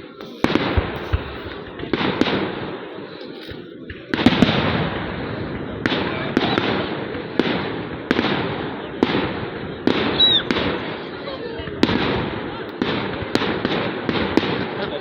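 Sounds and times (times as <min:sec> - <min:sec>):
fireworks bangs and crackle: 0:00.0 - 0:15.0.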